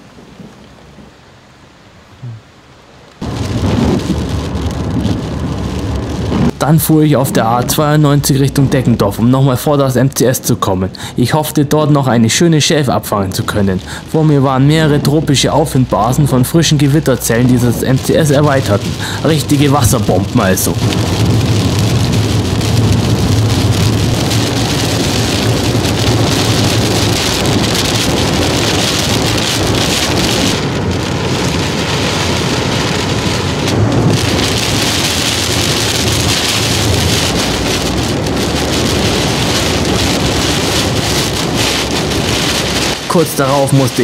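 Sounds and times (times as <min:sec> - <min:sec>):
car rumble on wet road: 0:00.0 - 0:44.0
heavy rain on car roof: 0:00.0 - 0:44.0.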